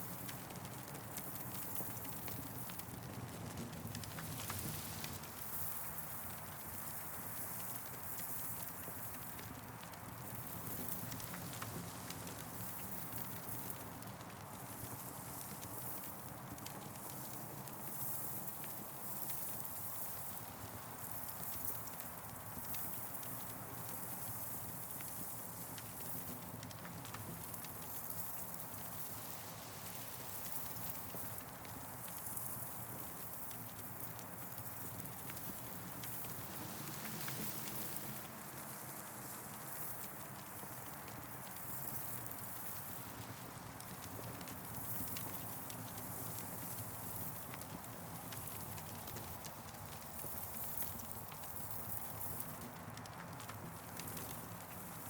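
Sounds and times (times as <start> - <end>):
burning wood hiss and rumble: 0.0 - 55.0
campfire crackling and popping: 0.1 - 55.0.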